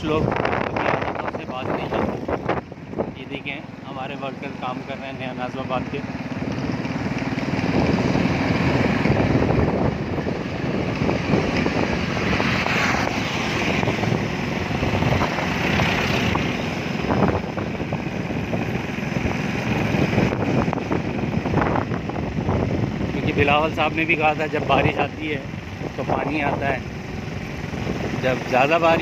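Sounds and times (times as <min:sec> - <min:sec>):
wind rushing over microphone: 0:00.0 - 0:04.6, 0:05.5 - 0:29.0
vehicle running: 0:00.0 - 0:29.0.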